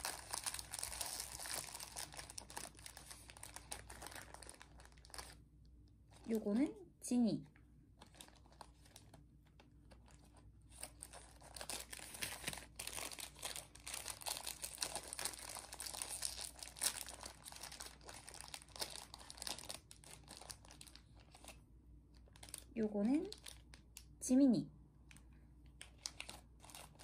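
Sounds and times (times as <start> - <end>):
packet wrapper crinkling and tearing: 0.0 - 5.4, 8.0 - 24.2, 25.1 - 27.0.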